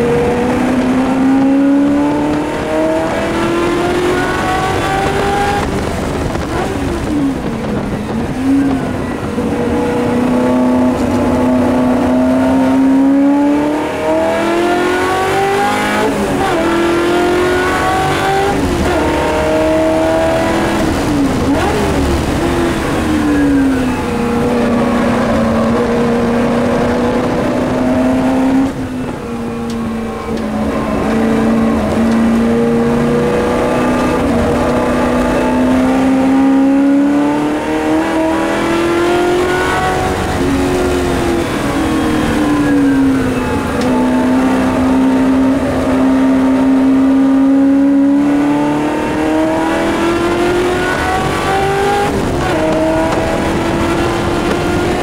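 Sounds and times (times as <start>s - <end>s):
racing engine accelerating: 0.0s - 55.0s.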